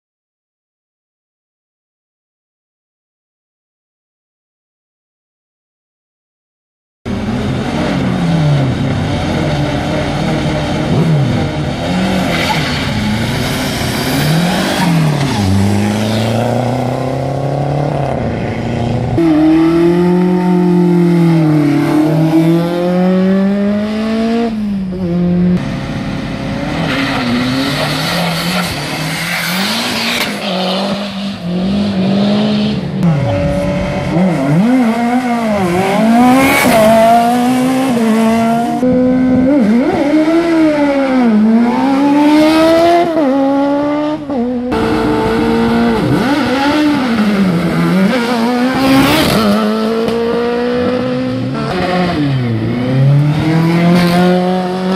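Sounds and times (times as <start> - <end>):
race car engines revving: 7.1 - 54.9.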